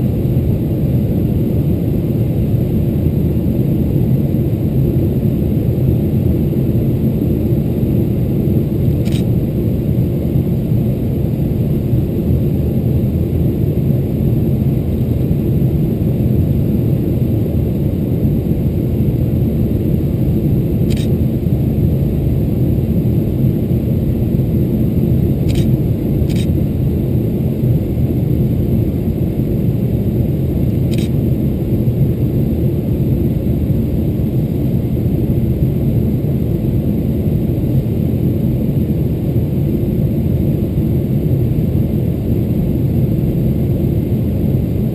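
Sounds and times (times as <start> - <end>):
airplane cabin engine roar: 0.0 - 44.9.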